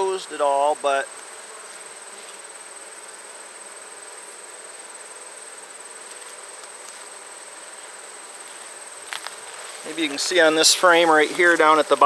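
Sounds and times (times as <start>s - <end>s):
high-pitched insect trill: 0.0s - 12.0s
honey bees humming: 0.0s - 12.0s.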